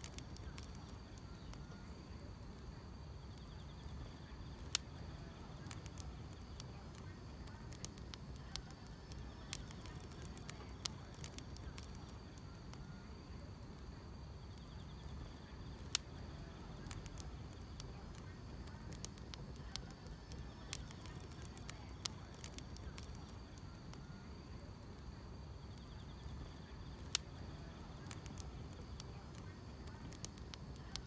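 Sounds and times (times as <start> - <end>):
field insects chirping: 0.0 - 31.0
wood fire crackling and popping: 0.0 - 31.0.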